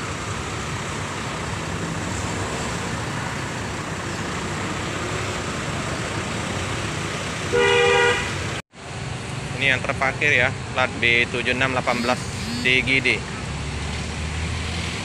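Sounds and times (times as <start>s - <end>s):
road traffic hiss: 0.0s - 15.0s.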